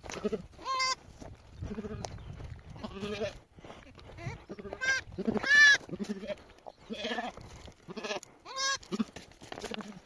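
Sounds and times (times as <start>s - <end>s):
sheep bleating: 0.0s - 1.0s, 1.6s - 2.2s, 2.8s - 3.4s, 4.1s - 10.0s.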